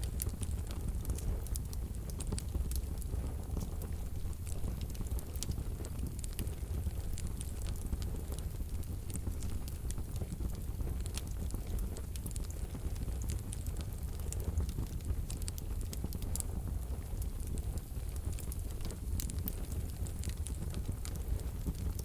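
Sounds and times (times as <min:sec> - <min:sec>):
fire crackling in a stove: 0:00.0 - 0:22.0.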